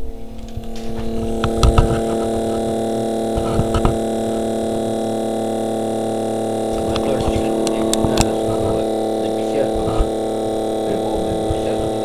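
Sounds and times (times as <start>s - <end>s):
small electric motor humming: 0.0s - 12.0s.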